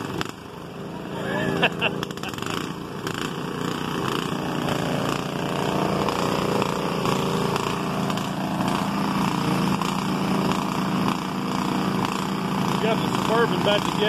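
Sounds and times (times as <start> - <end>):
tractor engines running: 0.0 - 14.0.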